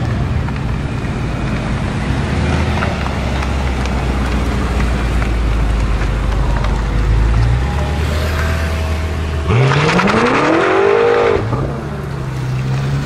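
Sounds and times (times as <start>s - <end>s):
car engine rumbling: 0.0s - 13.0s
street traffic: 0.0s - 13.0s.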